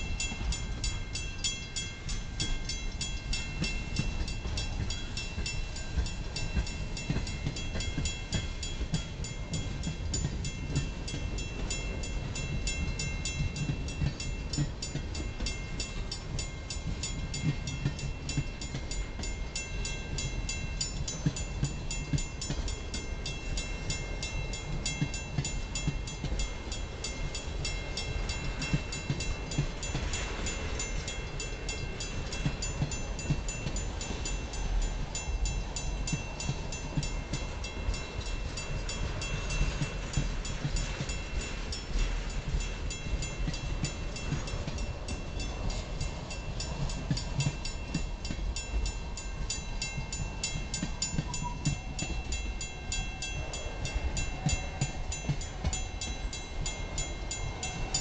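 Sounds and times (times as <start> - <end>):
train wheels rumbling on rail: 0.0 - 58.0
wheels clicking over rail joints: 0.0 - 58.0.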